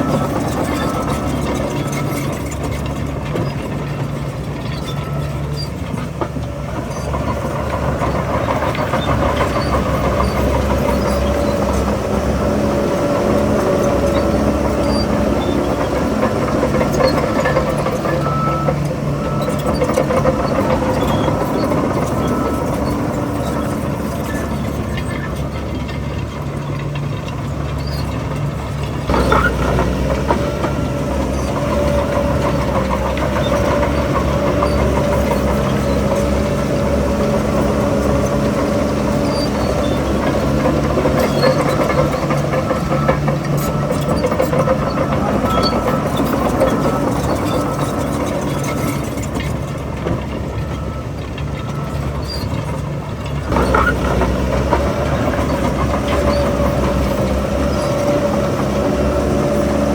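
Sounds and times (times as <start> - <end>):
bulldozer diesel engine running: 0.0 - 59.9
tracks clanking: 0.0 - 59.9.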